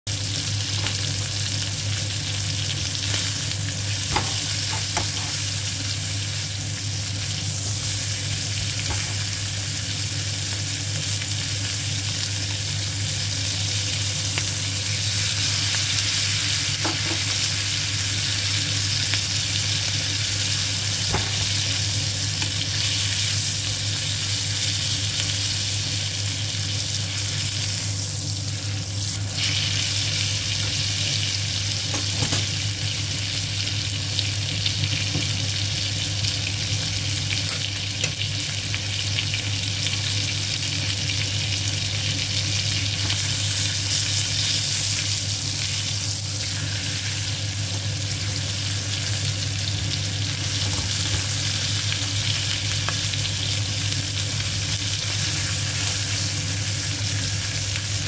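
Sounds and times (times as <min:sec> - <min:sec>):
steak sizzling in a pan: 0:00.1 - 0:58.0.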